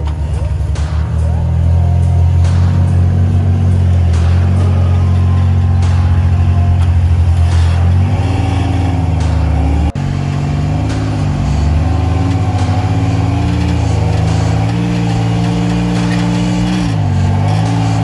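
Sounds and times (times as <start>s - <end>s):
buggy engine revving under load: 0.0s - 18.0s.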